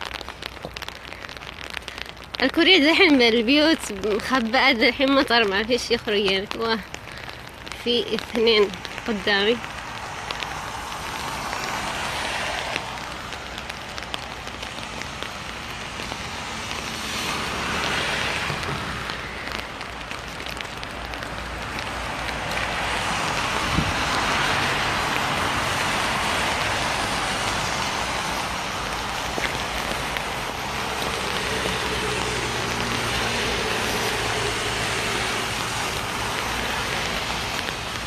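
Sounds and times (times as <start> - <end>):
cars driving on wet road: 0.0 - 38.0
rain falling on street: 0.0 - 38.0.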